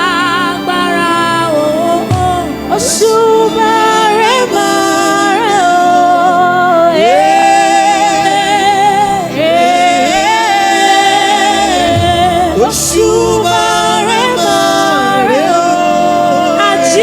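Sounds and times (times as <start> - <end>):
keyboard accompaniment: 0.0 - 17.0
woman singing with vibrato: 0.0 - 17.0.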